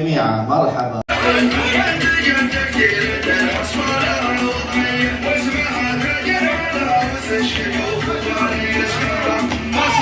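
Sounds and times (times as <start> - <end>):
music playing: 1.1 - 10.0.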